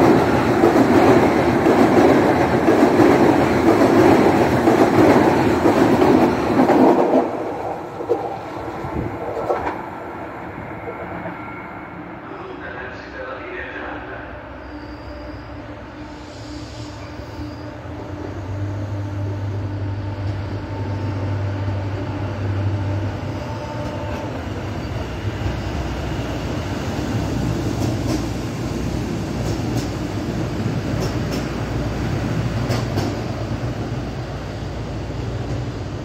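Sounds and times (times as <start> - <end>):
diesel train engine drone: 0.0 - 36.0.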